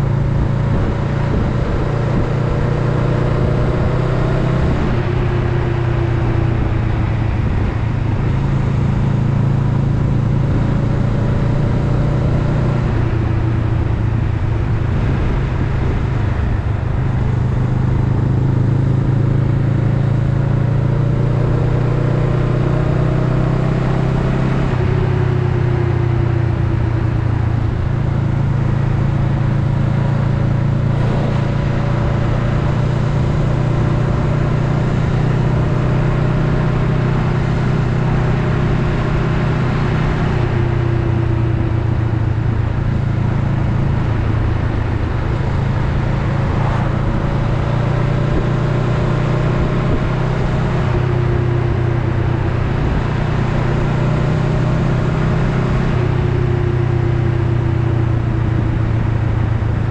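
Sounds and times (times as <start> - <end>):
motorcycle engine running: 0.0 - 23.8, 24.6 - 59.9.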